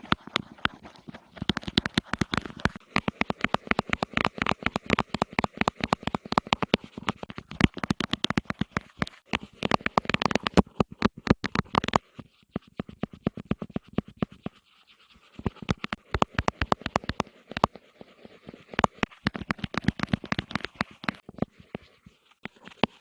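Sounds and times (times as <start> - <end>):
rapid sharp tapping: 0.0 - 14.6, 15.4 - 23.0.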